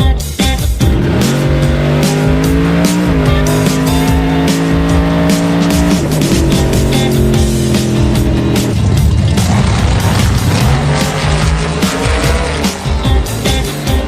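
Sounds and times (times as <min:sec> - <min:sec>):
background music with steady beat: 0:00.0 - 0:14.0
engine held at steady revs: 0:00.5 - 0:14.0.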